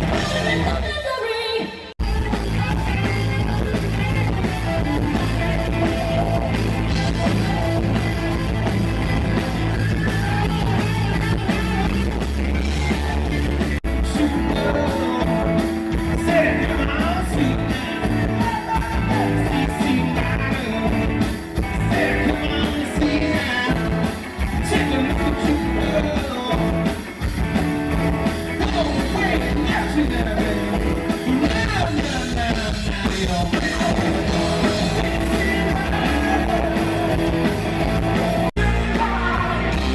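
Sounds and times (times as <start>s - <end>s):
rock music with singing: 0.0s - 39.9s.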